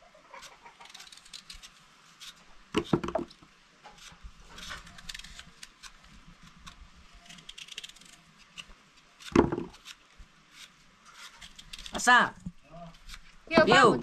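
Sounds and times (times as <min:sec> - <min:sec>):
knives scraping apples: 0:00.3 - 0:03.3, 0:03.9 - 0:12.0, 0:12.8 - 0:13.9.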